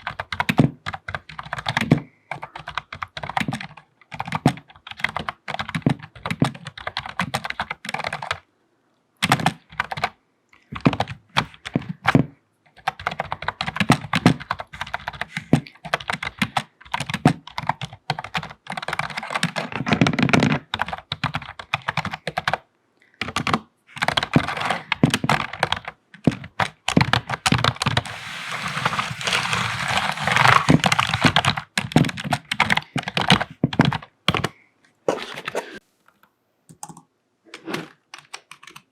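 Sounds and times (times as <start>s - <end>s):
typing on a computer keyboard: 0.0s - 8.4s, 9.2s - 28.0s, 31.2s - 34.5s, 36.7s - 37.1s, 38.1s - 38.9s.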